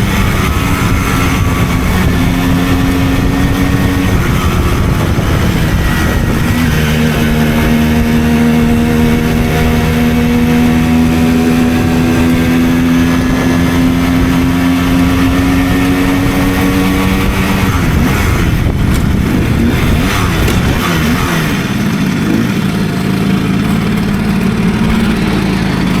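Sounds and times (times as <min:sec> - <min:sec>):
moped engine running: 0:00.0 - 0:26.0.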